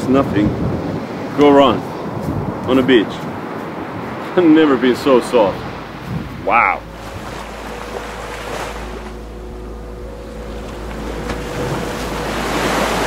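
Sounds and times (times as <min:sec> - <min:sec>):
ocean surf breaking on beach: 0:00.0 - 0:13.0
wind: 0:00.0 - 0:13.0.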